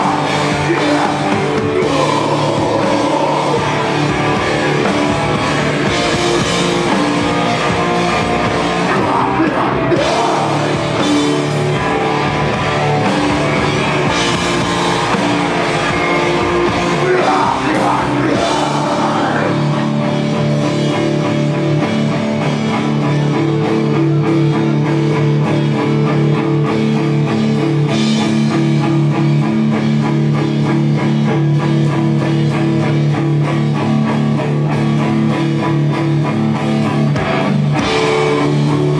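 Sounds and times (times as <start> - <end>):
held guitar chords ringing: 0.0 - 38.9
rock band playing live: 0.0 - 38.9.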